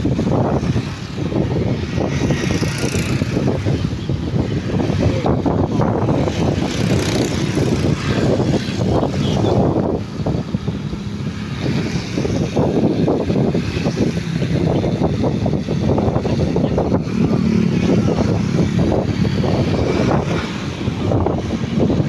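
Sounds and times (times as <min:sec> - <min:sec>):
wind buffeting the microphone: 0:00.0 - 0:22.0.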